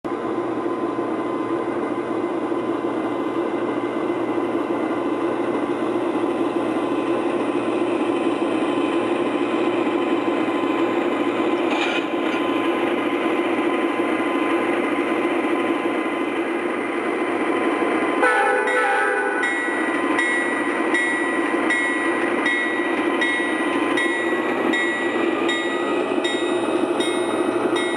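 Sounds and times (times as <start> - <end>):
model train rumbling with whine: 0.1 - 27.9.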